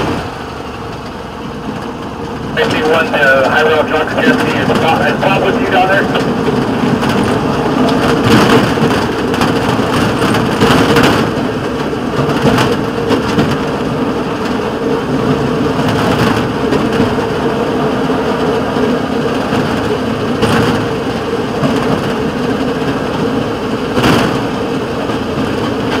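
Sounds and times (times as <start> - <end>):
engine drone: 0.0 - 26.0
loud clatters: 0.0 - 26.0
steel wheels rumbling on rails: 0.0 - 26.0.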